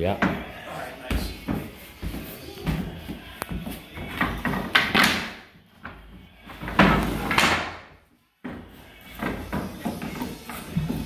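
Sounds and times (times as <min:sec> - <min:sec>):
wood scraping and knocking: 0:00.2 - 0:11.0.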